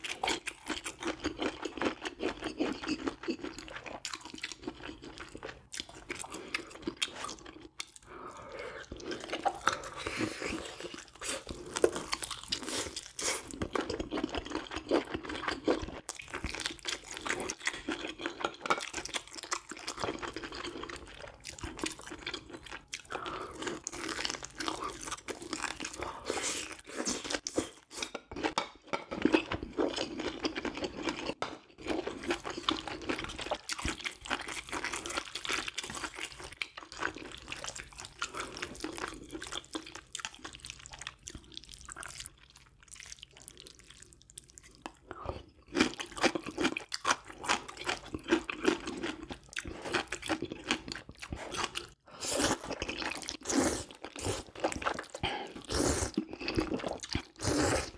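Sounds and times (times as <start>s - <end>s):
person chewing and crunching food: 0.0s - 57.9s.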